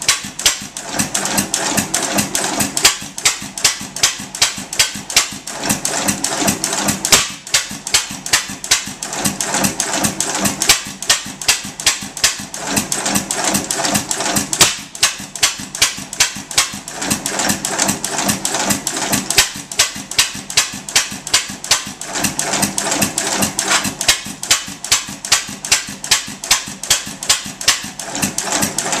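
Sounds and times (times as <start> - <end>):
gas engine running with sharp clicking: 0.0 - 29.0.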